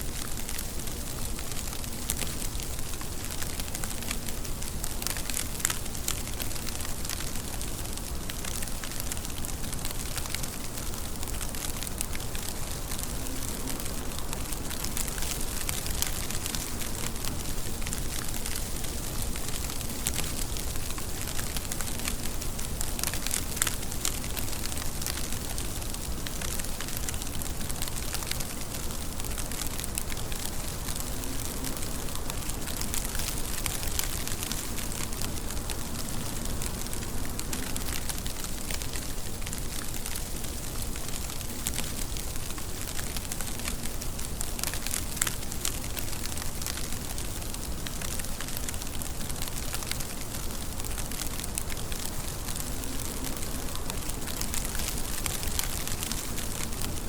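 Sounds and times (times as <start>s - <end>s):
steady rain with droplet ticks: 0.0s - 57.0s.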